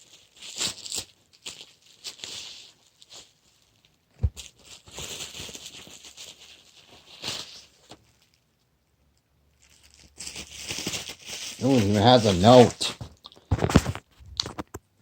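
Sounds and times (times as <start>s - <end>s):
packaging rustling and crinkling: 0.0s - 8.4s, 9.5s - 14.7s.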